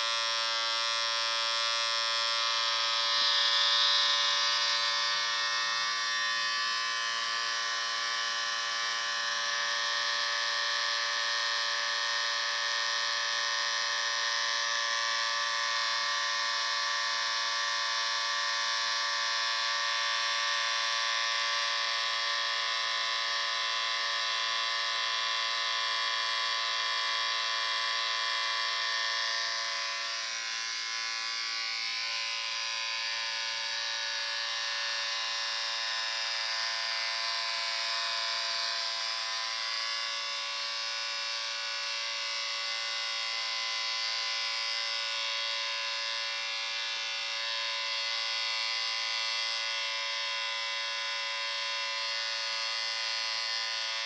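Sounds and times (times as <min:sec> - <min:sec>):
electric shaver buzzing: 0:00.0 - 0:54.0.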